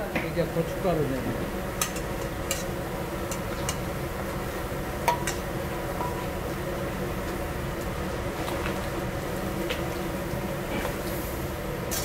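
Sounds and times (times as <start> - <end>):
burner and ventilation drone: 0.0 - 12.0.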